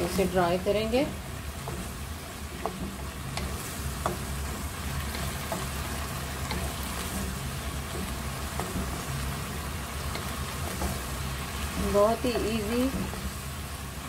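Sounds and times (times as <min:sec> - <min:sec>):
wooden spatula stirring: 0:00.0 - 0:13.9
meat sizzling in a wok: 0:00.0 - 0:14.0.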